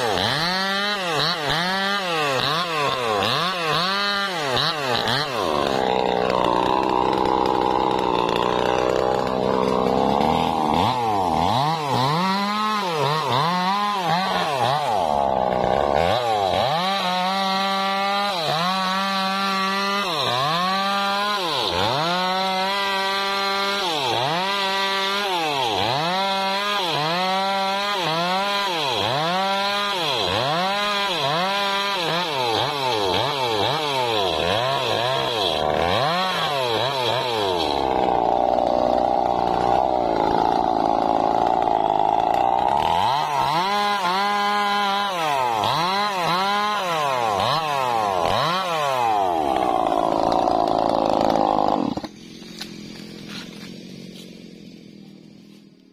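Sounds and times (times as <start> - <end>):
chainsaw cutting log: 0.0 - 55.9.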